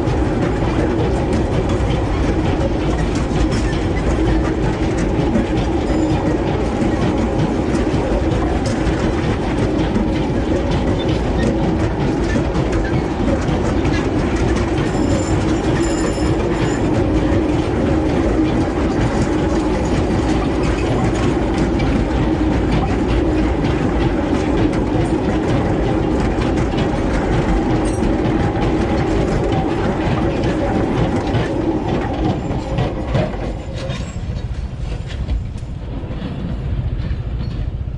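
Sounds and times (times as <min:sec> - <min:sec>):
railway wagons rolling past: 0:00.0 - 0:37.9
steel wheels clattering on track: 0:00.0 - 0:37.9.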